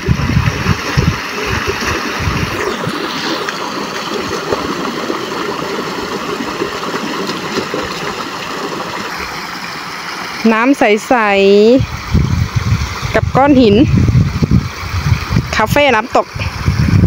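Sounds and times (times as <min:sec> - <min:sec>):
stream water pouring over weir: 0:00.0 - 0:17.0.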